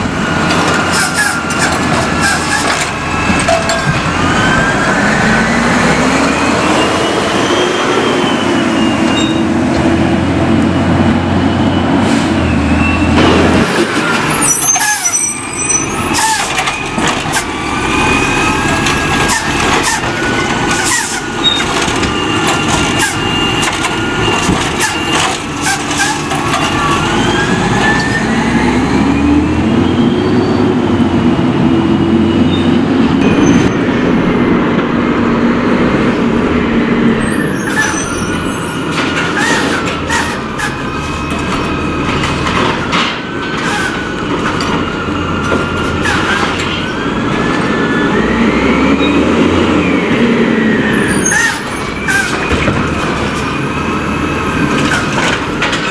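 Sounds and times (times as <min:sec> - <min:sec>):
recycling truck engine revving: 0:00.0 - 0:55.9.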